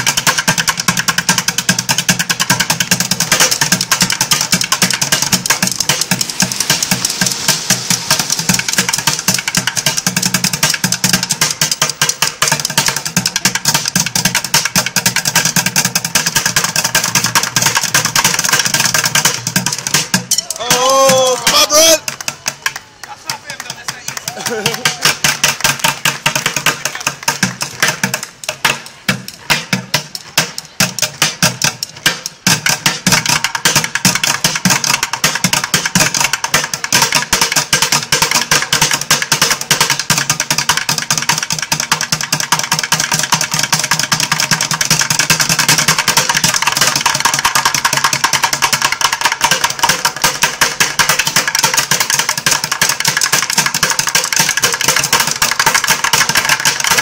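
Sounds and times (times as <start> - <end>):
drumsticks beating plastic buckets: 0.0 - 57.0.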